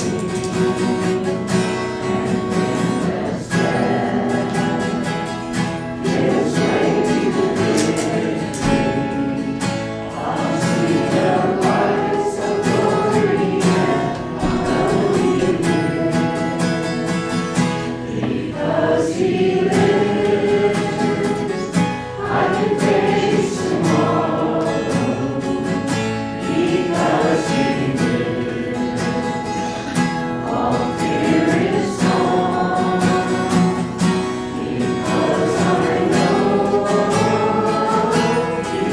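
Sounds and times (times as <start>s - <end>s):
acoustic guitar: 0.0s - 38.9s
group singing a hymn: 0.0s - 38.9s.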